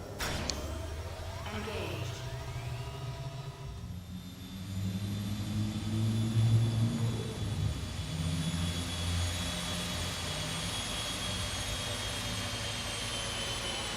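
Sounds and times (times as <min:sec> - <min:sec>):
engine running with high whine: 0:00.0 - 0:13.9.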